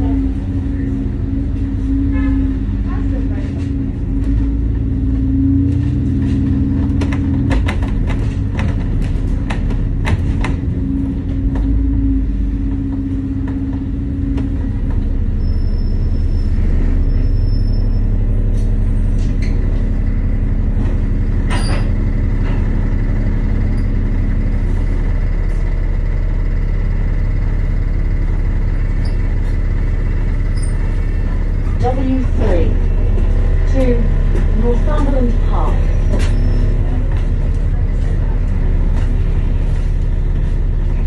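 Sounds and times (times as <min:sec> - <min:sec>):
bus engine idling: 0:00.0 - 0:41.0.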